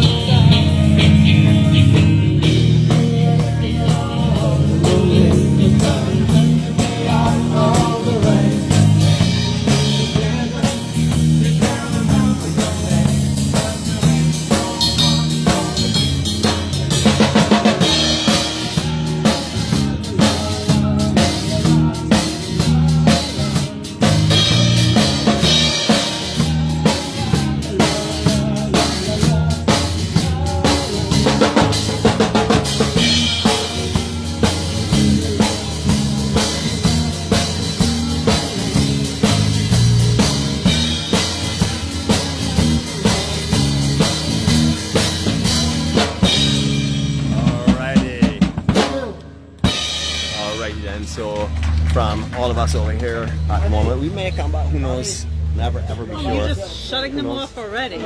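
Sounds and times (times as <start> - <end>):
drum kit beat: 0.0 - 54.2
bass line: 0.0 - 57.0
live band playing: 0.0 - 58.0.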